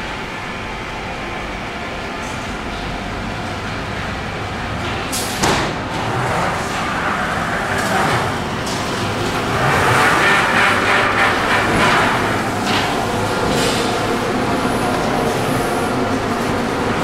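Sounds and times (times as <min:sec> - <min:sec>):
machinery mechanical din: 0:02.2 - 0:17.0.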